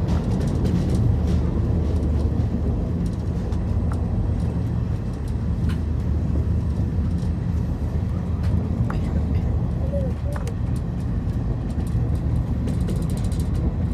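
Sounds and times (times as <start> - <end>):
train rumbling inside carriage: 0.0 - 13.9.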